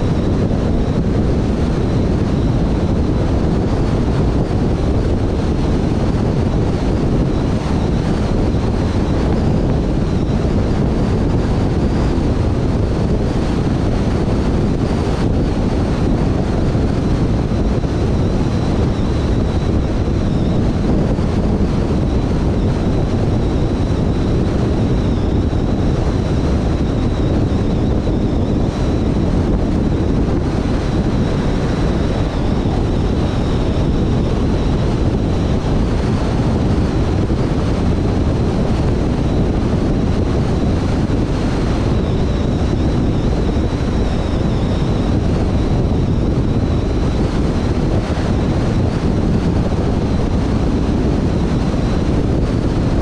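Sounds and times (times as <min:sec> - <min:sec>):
faint high whine: 0:00.0 - 0:53.0
wind buffeting microphone: 0:00.0 - 0:53.0.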